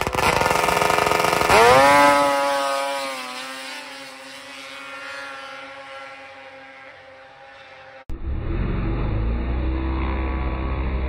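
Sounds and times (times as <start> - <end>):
snowmobile engines at full throttle: 0.0 - 11.0.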